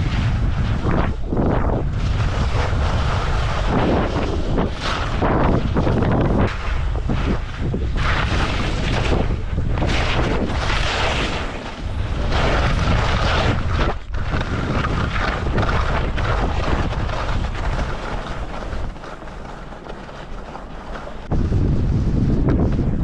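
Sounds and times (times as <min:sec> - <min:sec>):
wind buffeting microphone: 0:00.0 - 0:23.0
skis hissing over snow: 0:00.4 - 0:13.6, 0:14.5 - 0:21.6.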